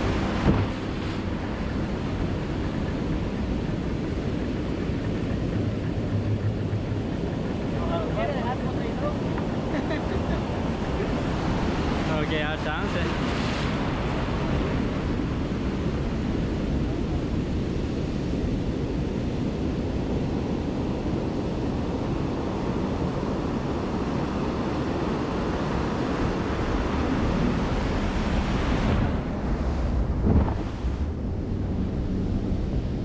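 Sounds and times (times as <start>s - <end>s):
surf rushing around boat hull: 0.0s - 33.0s
wind buffeting microphone: 0.0s - 33.0s.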